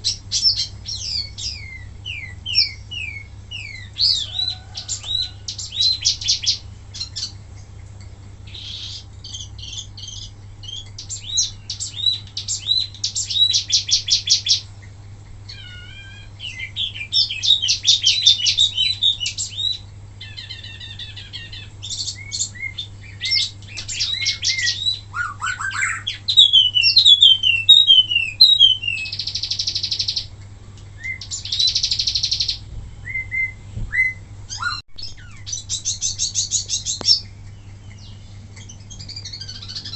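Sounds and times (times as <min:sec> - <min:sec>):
low electrical hum: 0:00.0 - 0:39.9
songbird singing: 0:00.0 - 0:39.9.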